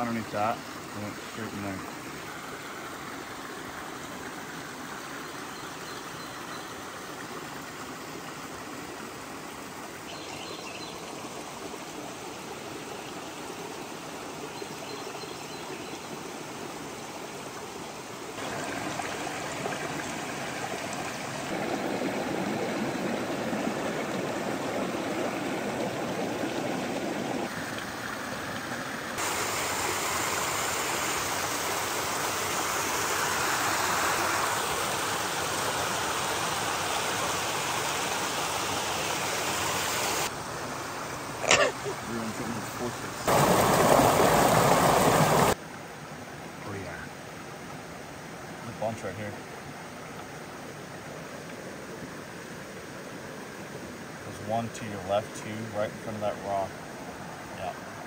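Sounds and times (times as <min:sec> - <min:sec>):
stream rushing over rocks: 0:00.0 - 0:14.9, 0:15.7 - 0:58.0.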